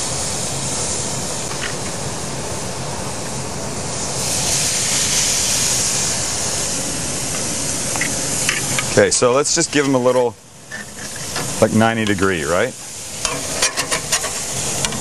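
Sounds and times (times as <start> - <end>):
fruit sizzling on a grill: 0.0 - 15.0.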